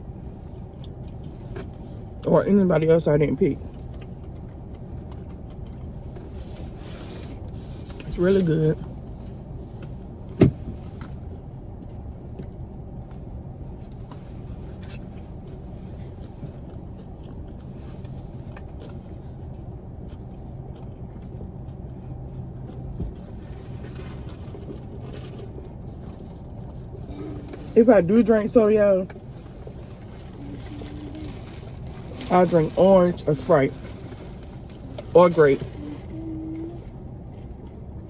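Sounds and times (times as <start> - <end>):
car interior rumble: 0.0 - 38.0.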